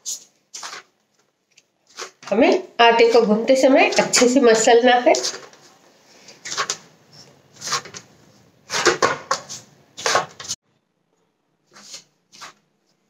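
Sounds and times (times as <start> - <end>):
dough kneaded in metal bowl: 0.0 - 10.6.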